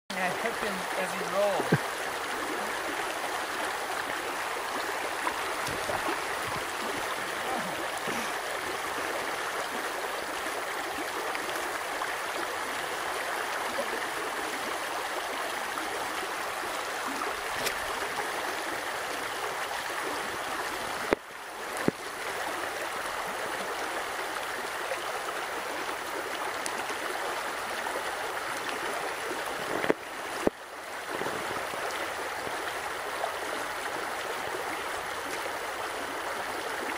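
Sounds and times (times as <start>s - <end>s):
creek water running over stones: 0.1s - 36.9s.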